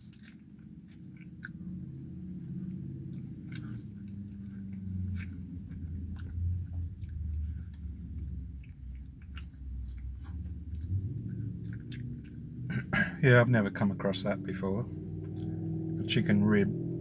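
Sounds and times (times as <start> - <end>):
person chewing crispy chicken: 0.0 - 13.3, 15.0 - 15.6
steady low hum: 0.0 - 17.0.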